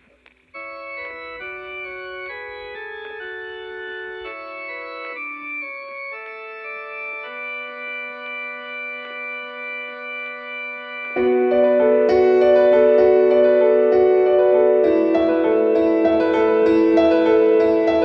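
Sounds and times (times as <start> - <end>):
organ-like keyboard chords: 0.4 - 18.0.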